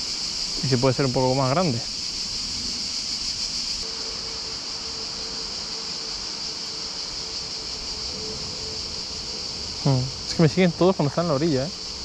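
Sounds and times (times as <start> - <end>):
cicadas chorus: 0.0 - 12.0
faint steady hum: 0.0 - 12.0.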